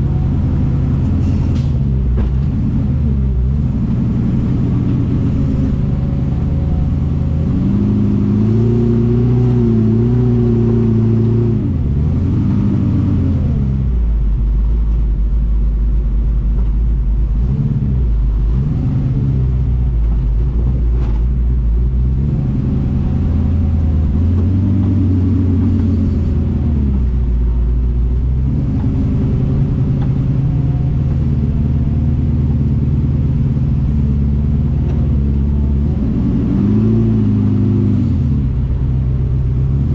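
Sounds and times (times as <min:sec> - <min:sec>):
engine revving low rumble: 0:00.0 - 0:39.9.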